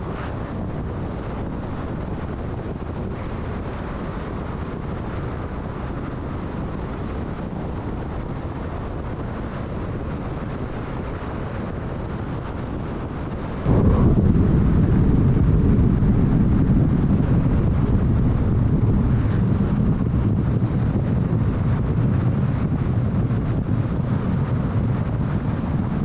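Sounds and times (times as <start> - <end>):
tyre and wind noise: 0.0 - 26.0.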